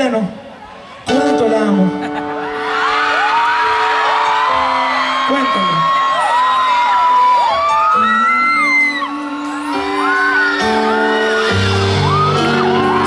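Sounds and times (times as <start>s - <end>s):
audience whooping and screaming: 2.2s - 13.0s.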